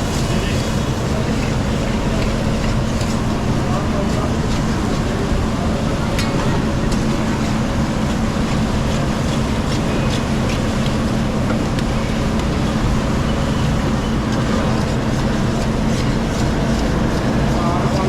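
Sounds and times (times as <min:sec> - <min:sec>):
steady droning hum: 0:00.0 - 0:18.0.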